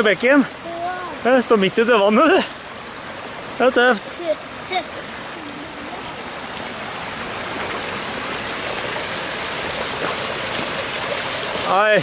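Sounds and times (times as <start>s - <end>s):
brook running over stones: 0.0s - 12.0s.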